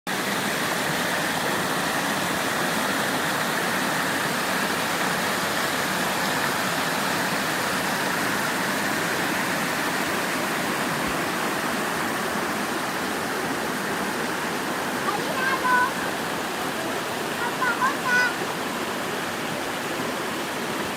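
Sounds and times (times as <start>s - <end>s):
rushing water: 0.1s - 20.9s.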